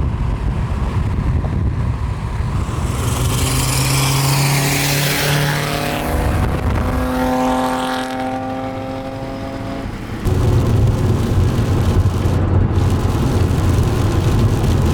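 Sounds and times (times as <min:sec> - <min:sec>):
car engine: 0:00.0 - 0:14.9
road and wind rumble: 0:00.0 - 0:14.9.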